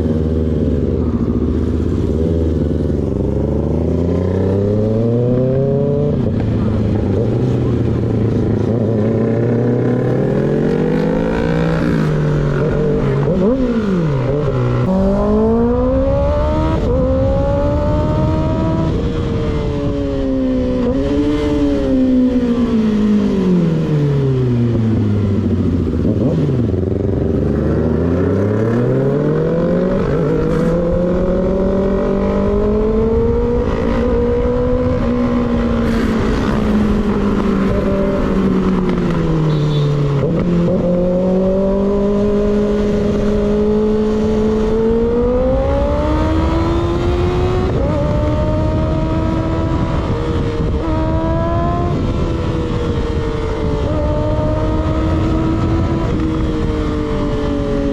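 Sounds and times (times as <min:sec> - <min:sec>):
motorcycle engine revving through gears: 0:00.0 - 0:57.9.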